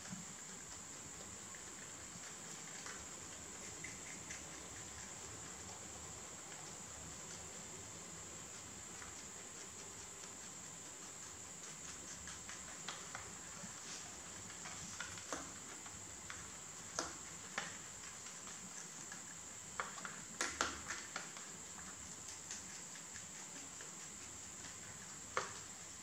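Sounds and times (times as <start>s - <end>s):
rabbits chewing leaves: 0.0s - 26.0s
steady high-pitched hiss: 0.0s - 26.0s.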